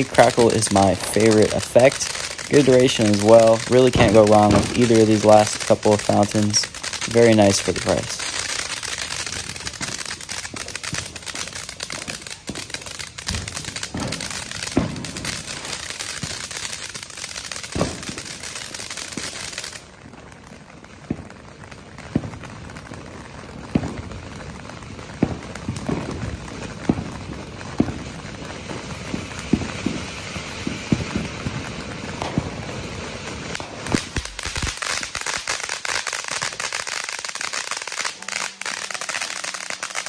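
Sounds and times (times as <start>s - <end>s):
firework crackling pops: 0.0s - 40.0s
fountain firework hissing: 0.0s - 40.0s.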